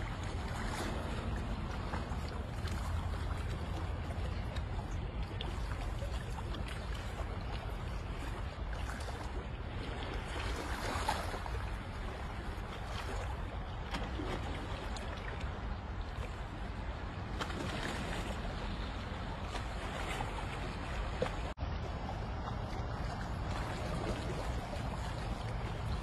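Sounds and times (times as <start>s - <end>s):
sea water lapping against boulders: 0.0s - 26.0s.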